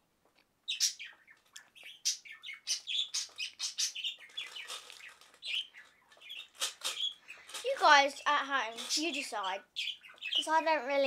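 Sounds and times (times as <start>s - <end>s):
small bird chirping rapidly: 0.6s - 11.0s.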